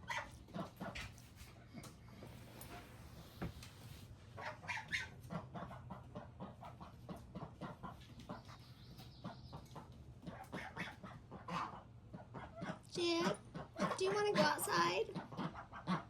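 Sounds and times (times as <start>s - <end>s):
chickens clucking: 0.0s - 2.3s, 4.2s - 16.0s.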